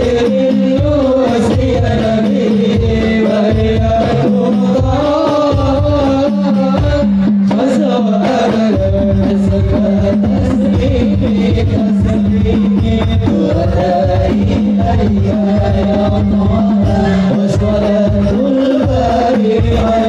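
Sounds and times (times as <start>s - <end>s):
frame drums beating: 0.0s - 20.0s
male group singing in unison: 0.0s - 20.0s.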